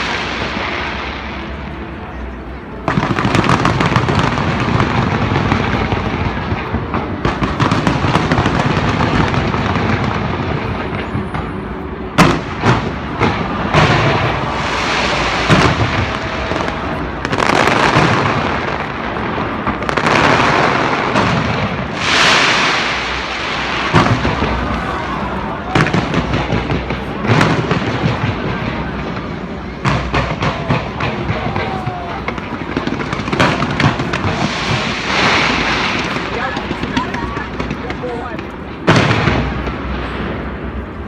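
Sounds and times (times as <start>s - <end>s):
fireworks crackling and booming: 0.0s - 41.0s
loud firework bangs: 2.8s - 41.0s.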